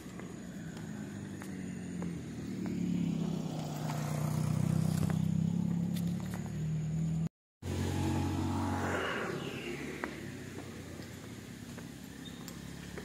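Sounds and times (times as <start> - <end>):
vehicle engine approaching: 0.0 - 13.0.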